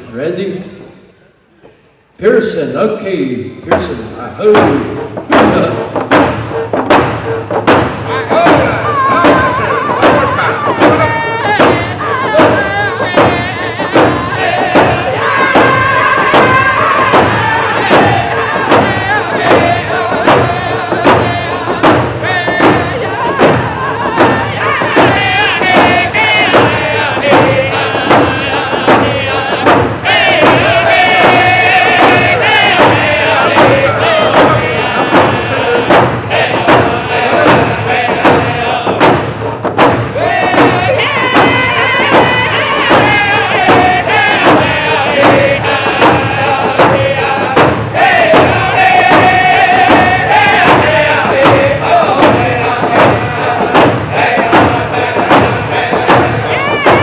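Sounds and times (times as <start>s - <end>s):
hand drum beat: 3.7s - 57.0s
men singing in unison: 8.0s - 57.0s.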